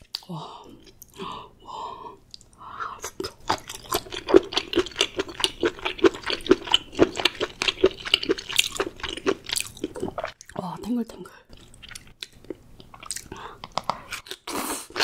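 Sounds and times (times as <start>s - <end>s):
person chewing octopus: 0.0s - 10.6s, 11.4s - 15.0s.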